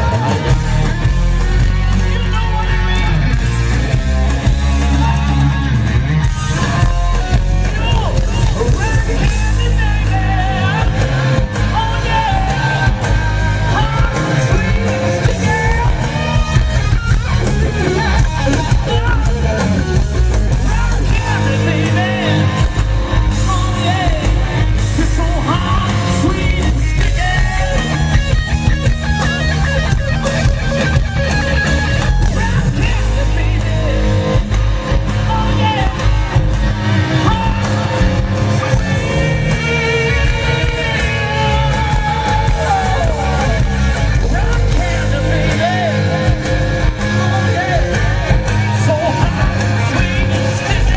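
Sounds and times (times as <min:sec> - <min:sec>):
bass guitar: 0:00.0 - 0:50.9
drums: 0:00.0 - 0:50.9
electric guitar: 0:00.0 - 0:50.9
person singing: 0:06.4 - 0:29.2, 0:32.2 - 0:50.9.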